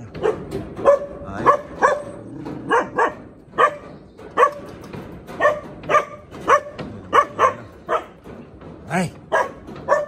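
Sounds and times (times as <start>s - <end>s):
dog barking: 0.2s - 4.7s, 5.3s - 8.2s, 9.3s - 10.0s.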